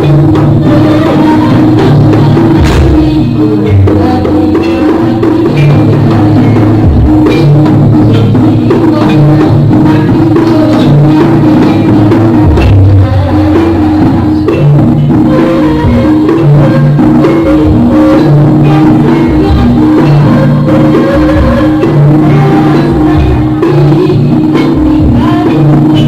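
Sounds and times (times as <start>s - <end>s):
deep low drum strokes: 0.0s - 26.0s
drums keeping steady rhythm: 0.0s - 26.0s
pitched struck notes: 0.0s - 26.0s.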